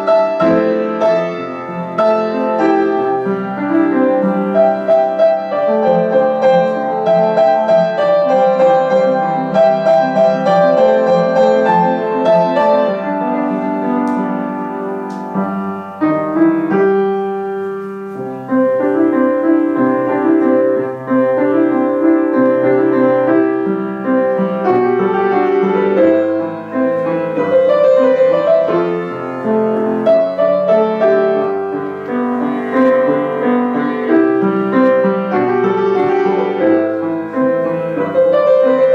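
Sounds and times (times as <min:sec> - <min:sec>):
piano piece: 0:00.0 - 0:38.9.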